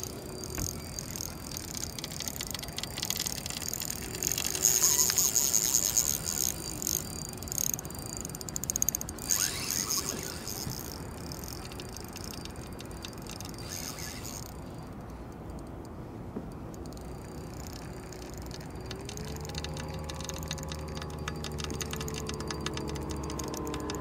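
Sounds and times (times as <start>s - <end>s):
fishing reel ticking: 0.0s - 24.0s
low steady hum: 0.0s - 24.0s.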